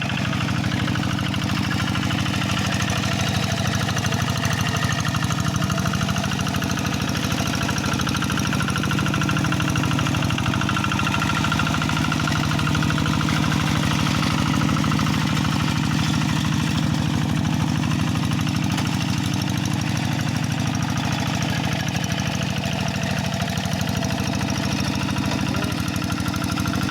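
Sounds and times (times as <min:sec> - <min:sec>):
diesel engine running steadily: 0:00.0 - 0:26.9.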